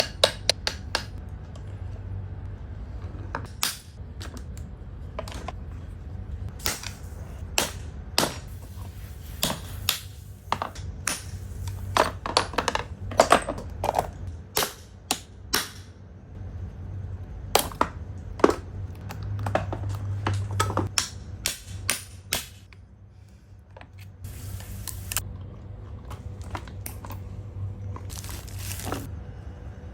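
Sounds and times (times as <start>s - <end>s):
low hum: 0.0s - 9.2s, 12.7s - 29.9s.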